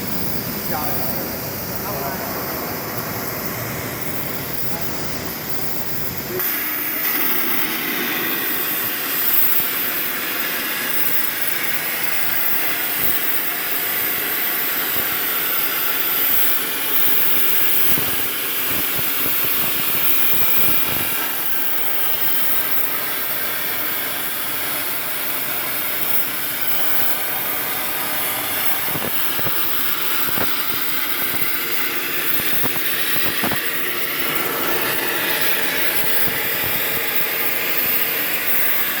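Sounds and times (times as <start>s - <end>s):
plasma torch hissing: 0.0s - 39.0s.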